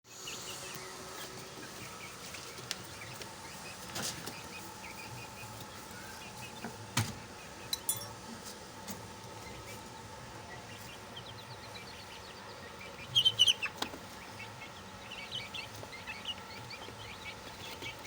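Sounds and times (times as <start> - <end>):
chicks cheeping softly: 0.1 - 18.0
steady background hum: 0.1 - 18.0.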